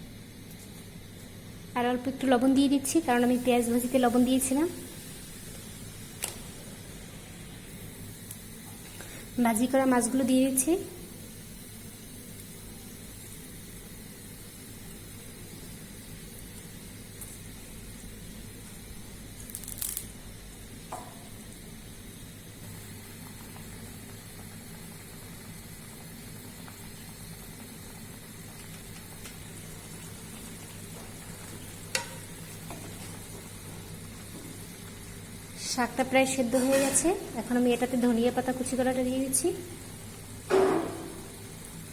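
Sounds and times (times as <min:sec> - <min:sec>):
food sizzling in a pan: 0:00.1 - 0:41.9.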